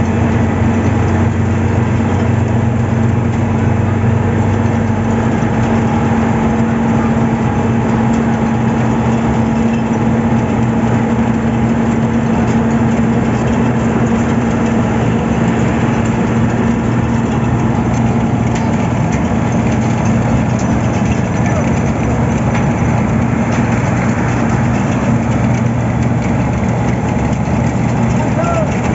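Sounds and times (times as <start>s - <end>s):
heavy machinery engine running: 0.0s - 28.9s.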